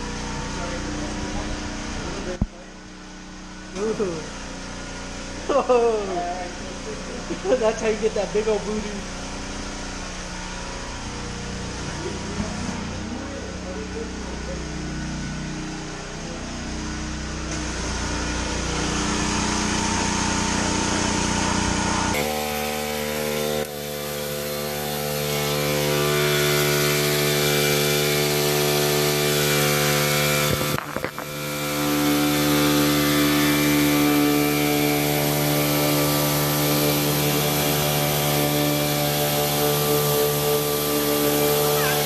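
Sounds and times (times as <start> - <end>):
small motor humming: 0.0 - 42.0.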